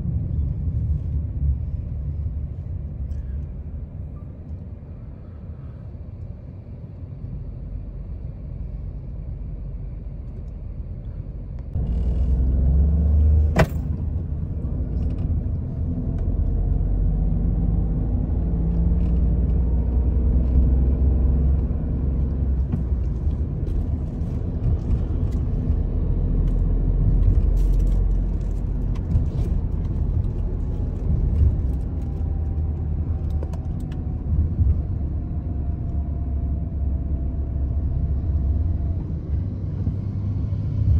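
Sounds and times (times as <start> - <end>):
car engine and tyres rumbling: 0.0 - 40.9.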